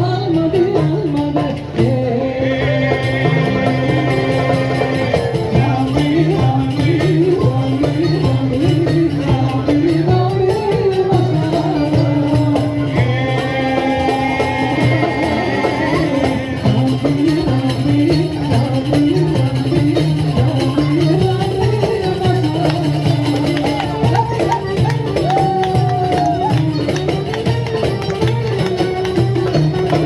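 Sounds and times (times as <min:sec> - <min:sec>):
live folk band: 0:00.0 - 0:30.0.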